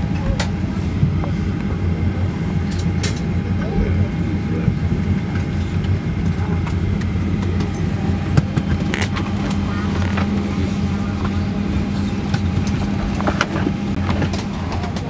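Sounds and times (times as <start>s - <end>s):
airliner cabin hum: 0.0s - 15.0s.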